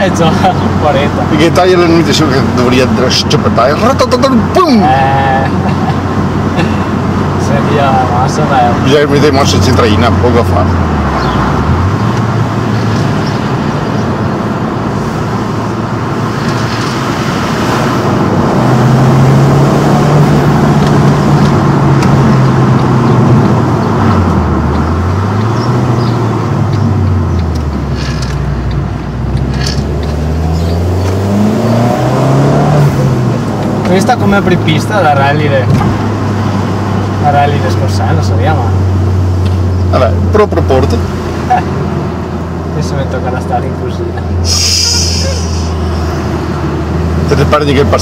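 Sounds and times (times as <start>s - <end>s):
car engine revving: 0.0s - 48.0s
road and tyre noise: 0.0s - 48.0s.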